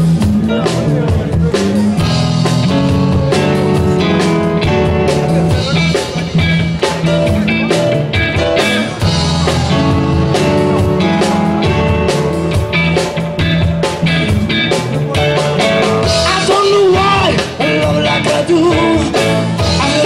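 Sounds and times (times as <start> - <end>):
bass: 0.0 - 20.0
electric guitar: 0.0 - 20.0
soul band instrumental groove: 0.0 - 20.0
steady drum beat: 0.0 - 20.0.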